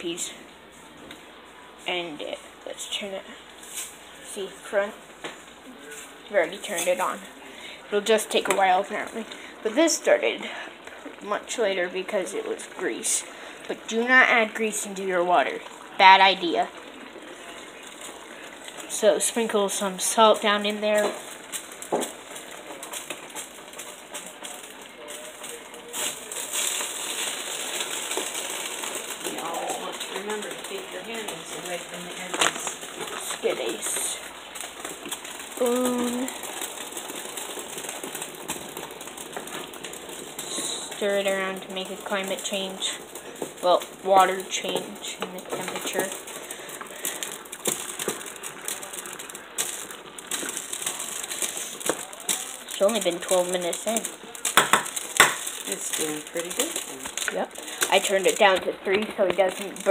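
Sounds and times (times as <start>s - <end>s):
meat sizzling in a pot: 0.0s - 59.9s.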